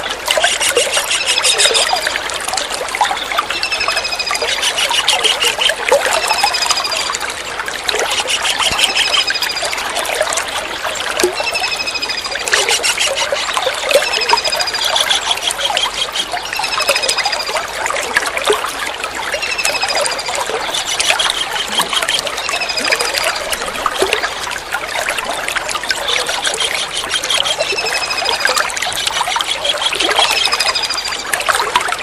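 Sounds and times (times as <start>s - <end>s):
trickling water: 0.0s - 32.0s
kingfisher calling in rapid trills: 0.3s - 2.2s, 3.5s - 7.2s, 7.9s - 10.0s, 11.3s - 17.7s, 19.3s - 31.3s.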